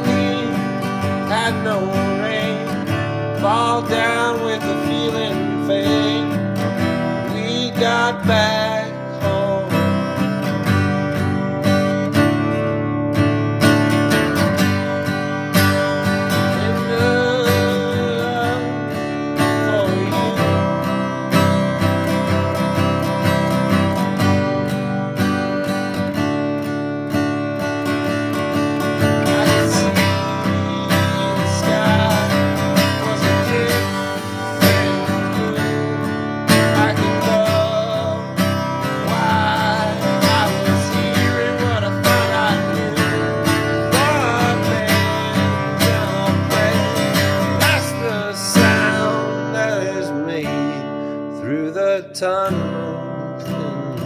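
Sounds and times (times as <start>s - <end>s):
acoustic guitar strummed and picked: 0.0s - 54.0s.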